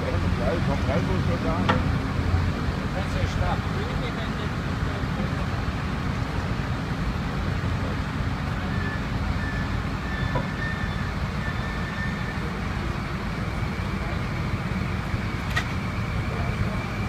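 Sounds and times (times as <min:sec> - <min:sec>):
diesel crane engine rumble: 0:00.0 - 0:17.0
street traffic: 0:00.0 - 0:17.0.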